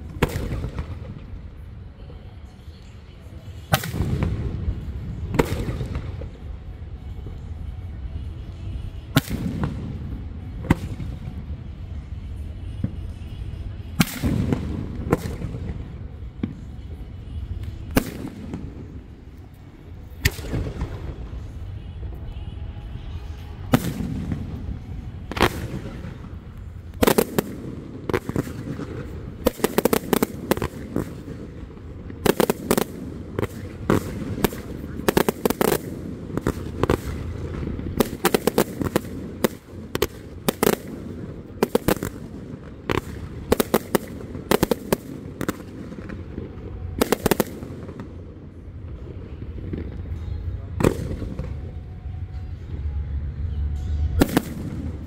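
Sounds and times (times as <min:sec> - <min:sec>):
firework crackles: 0:00.0 - 0:52.6.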